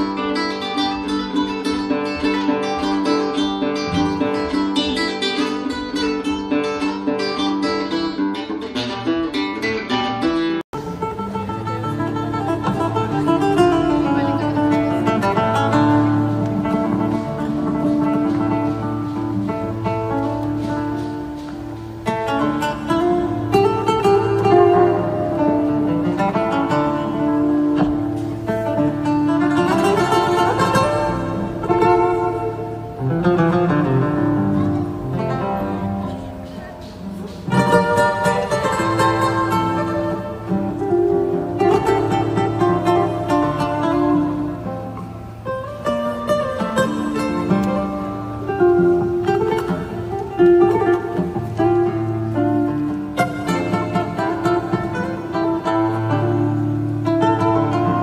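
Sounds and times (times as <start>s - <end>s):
acoustic guitar music: 0.0s - 58.0s.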